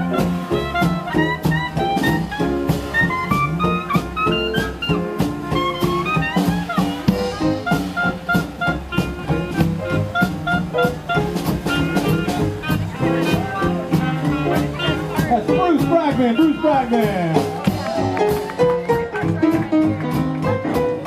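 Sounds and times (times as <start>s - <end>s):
jazz band playing: 0.0s - 21.0s.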